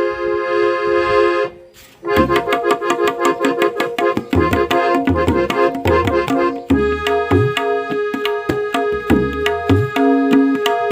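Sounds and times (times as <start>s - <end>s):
harmonium chord and melody: 0.0s - 10.9s
tabla strokes: 2.1s - 10.9s.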